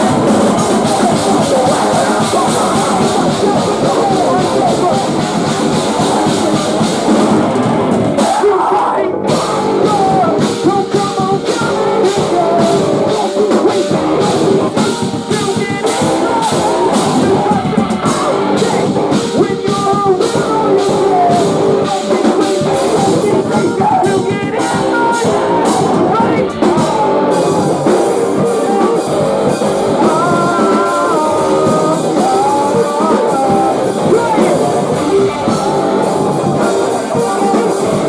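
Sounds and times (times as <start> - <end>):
distorted electric guitars: 0.0 - 38.0
drum kit: 0.0 - 38.0
person singing: 0.0 - 38.0.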